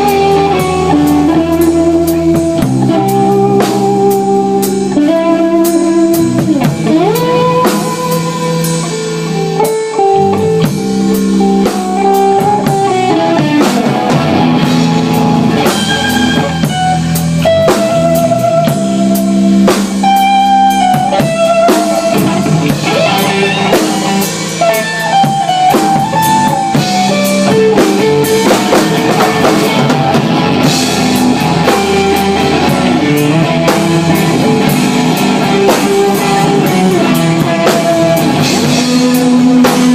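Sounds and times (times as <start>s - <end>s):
electric guitar lead: 0.0s - 39.9s
rock band playing: 0.0s - 39.9s.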